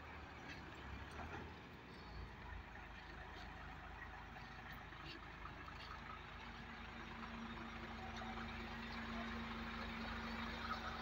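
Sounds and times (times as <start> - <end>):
heavy truck engine and road noise: 0.0 - 11.0.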